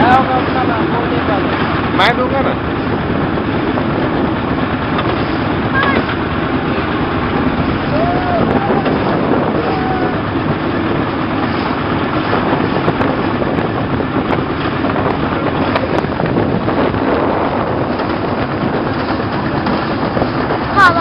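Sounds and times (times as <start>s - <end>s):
motorboat diesel engine running: 0.0s - 21.0s
wind buffeting microphone: 0.0s - 21.0s.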